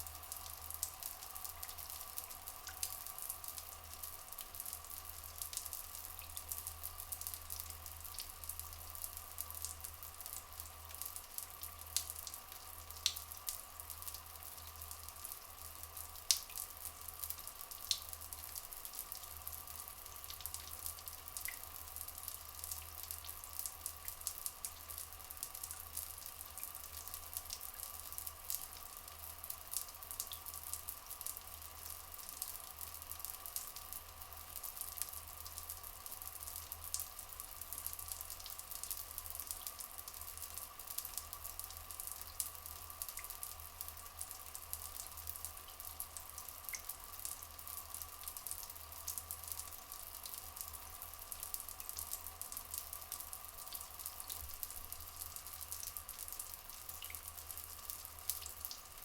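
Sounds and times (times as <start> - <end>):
faint steady hum: 0.0 - 59.0
water trickling: 0.0 - 59.0.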